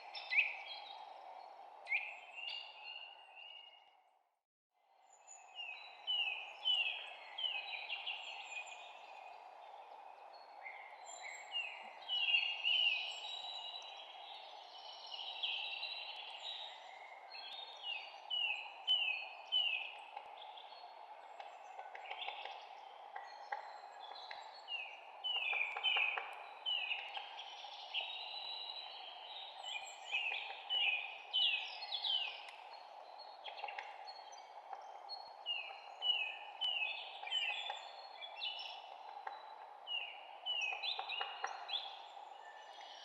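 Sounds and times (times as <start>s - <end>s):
songbirds chirping: 0.0s - 4.2s, 4.8s - 43.0s
background hiss: 6.1s - 43.0s.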